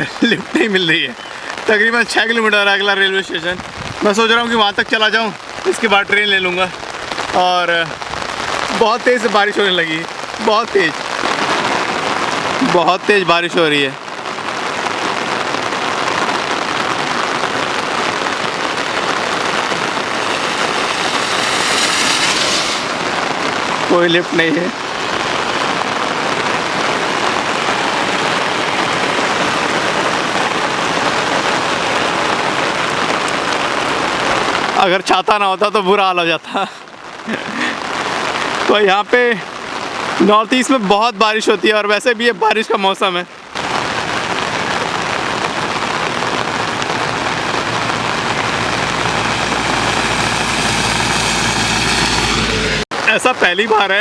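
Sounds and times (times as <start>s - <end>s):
heavy rain on umbrella: 0.0s - 54.0s.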